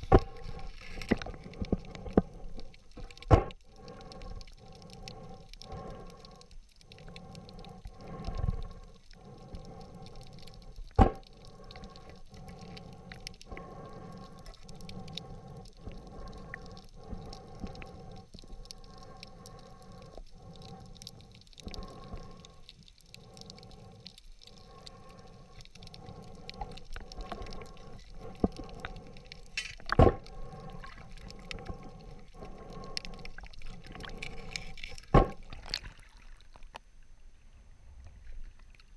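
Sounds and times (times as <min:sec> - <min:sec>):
underwater hum of held tones: 0:00.0 - 0:38.9.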